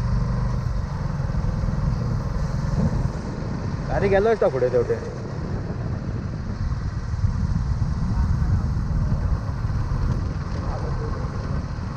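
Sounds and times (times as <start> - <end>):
motorcycle engine and road rumble: 0.0 - 11.9.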